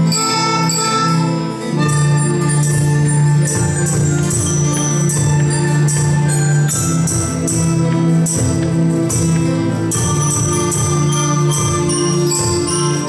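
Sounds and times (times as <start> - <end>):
bright metallophone notes: 0.0 - 13.0.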